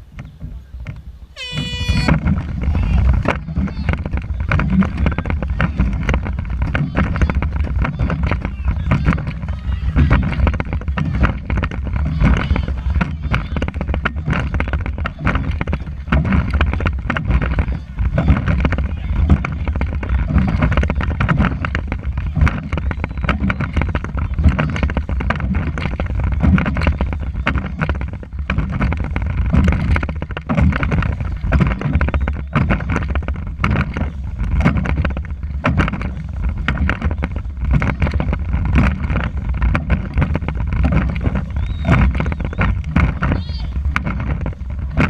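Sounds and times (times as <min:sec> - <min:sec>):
wind buffeting microphone: 0:00.0 - 0:45.0
short splashes and knocks: 0:01.6 - 0:45.0.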